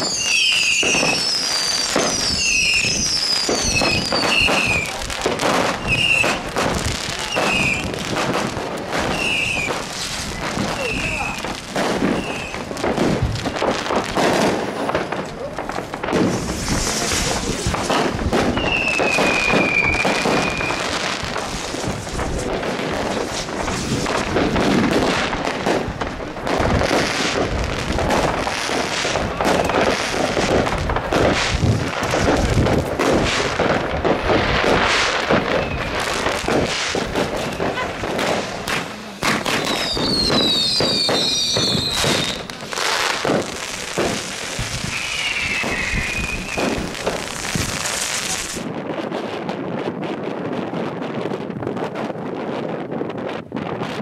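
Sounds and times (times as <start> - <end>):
fireworks whistles gliding down: 0.0 - 48.6
fireworks bangs and crackling: 0.0 - 54.0.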